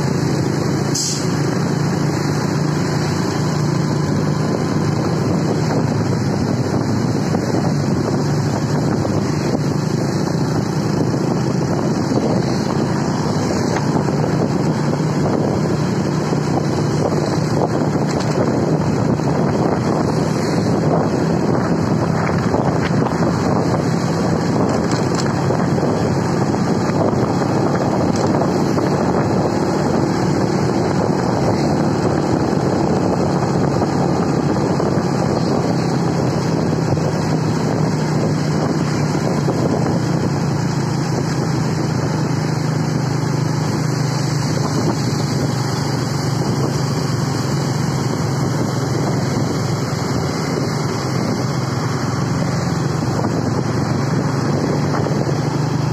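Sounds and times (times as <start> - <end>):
vehicle engines droning: 0.0 - 55.9
wind noise on microphone: 0.0 - 55.9.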